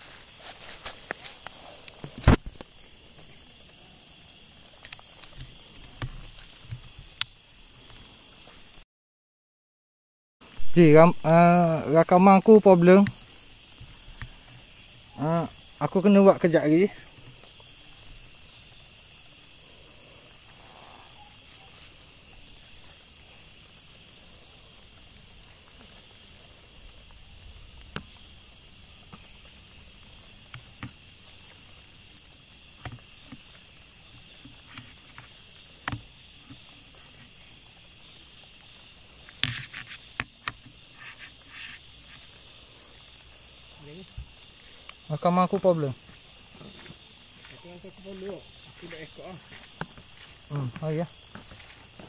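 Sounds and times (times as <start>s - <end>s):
rustling through undergrowth: 0.0s - 7.1s, 12.9s - 52.0s
night insect chorus: 0.0s - 8.8s, 10.4s - 52.0s.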